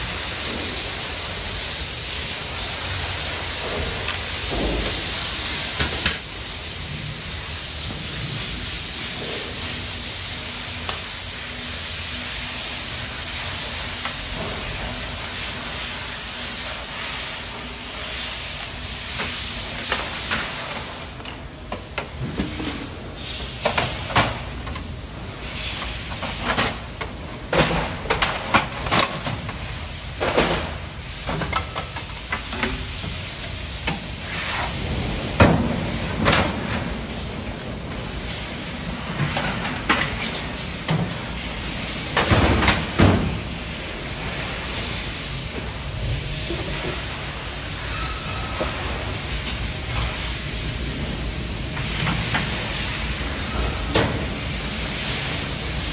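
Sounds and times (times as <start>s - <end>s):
steady hiss: 0.0s - 55.9s.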